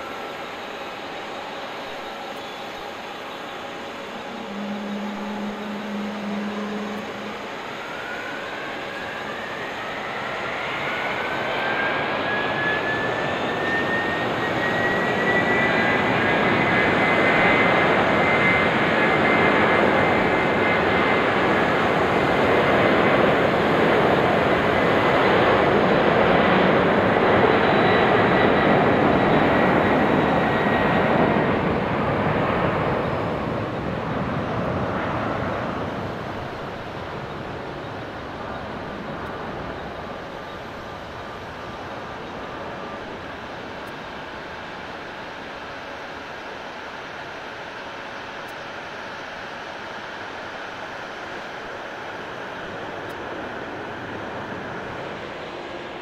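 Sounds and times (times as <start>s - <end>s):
engine fan whine: 0.0s - 56.0s
jet engines passing: 0.0s - 56.0s.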